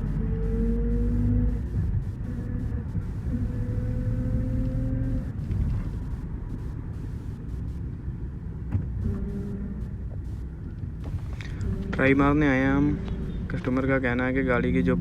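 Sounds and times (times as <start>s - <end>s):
diesel engine rumble: 0.0s - 15.0s
faint whine: 0.0s - 15.0s.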